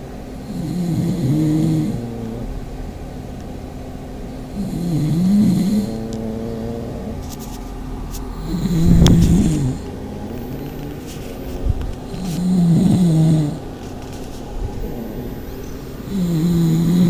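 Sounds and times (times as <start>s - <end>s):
dog snoring: 0.4s - 2.7s, 4.4s - 17.0s.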